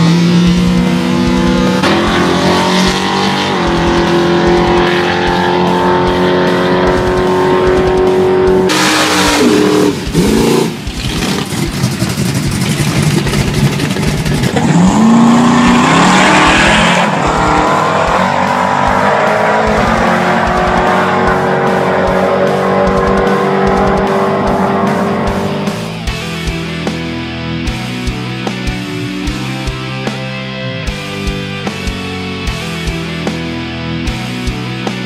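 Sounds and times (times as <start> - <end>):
drag car engines at full throttle: 0.0 - 35.0.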